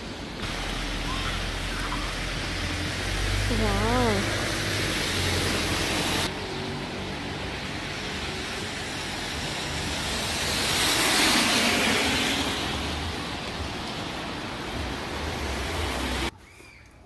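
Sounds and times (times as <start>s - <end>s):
traffic engine hum: 0.1s - 16.3s
car tyres hissing on wet road: 0.4s - 16.3s.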